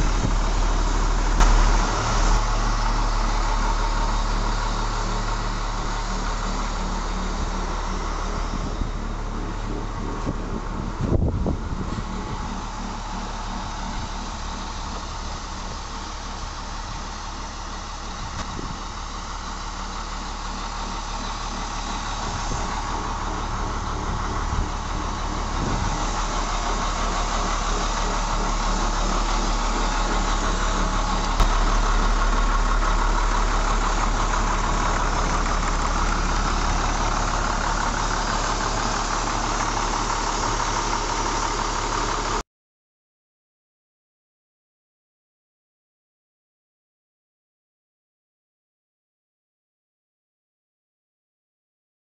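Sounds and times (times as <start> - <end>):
diesel engine idling: 0.0 - 42.4.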